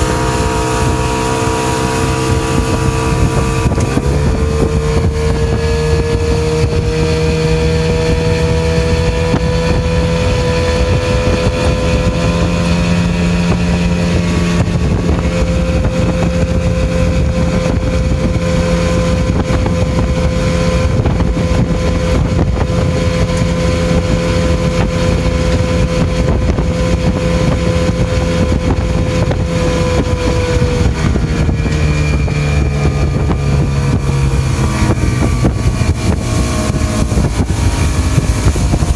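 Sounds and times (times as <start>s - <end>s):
outboard motor running: 0.0s - 38.9s
wind on microphone: 0.0s - 38.9s.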